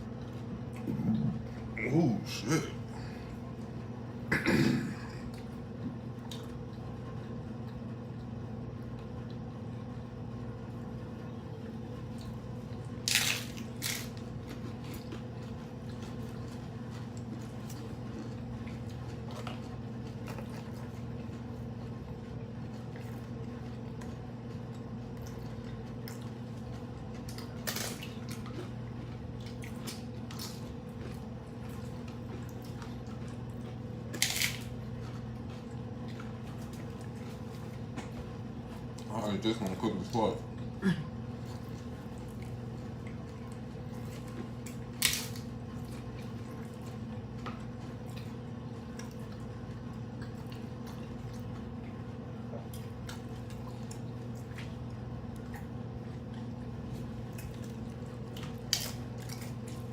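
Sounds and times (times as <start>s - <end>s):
wet chewing: 5.0s - 59.9s
crunching tacos: 11.7s - 59.9s.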